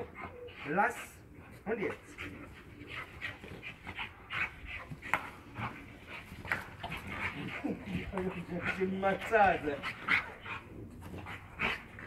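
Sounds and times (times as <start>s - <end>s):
dogs panting: 0.0s - 12.0s.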